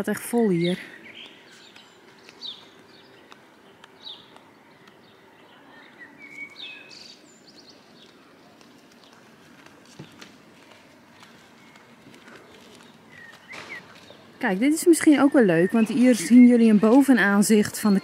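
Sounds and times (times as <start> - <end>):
birds chirping: 0.0 - 18.0
outdoor background noise: 0.0 - 18.0.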